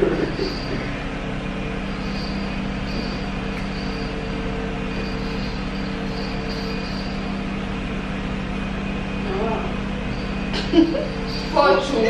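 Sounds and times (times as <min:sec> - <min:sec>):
faint high whine: 0:00.0 - 0:12.0
machine hum: 0:00.0 - 0:12.0.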